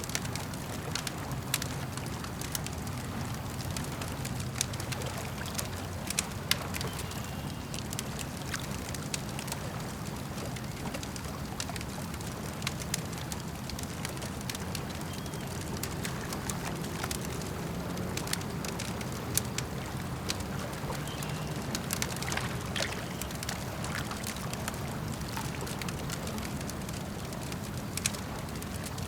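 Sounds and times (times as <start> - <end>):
campfire crackling and popping: 0.0 - 29.0
lake water lapping at shore: 0.0 - 29.0.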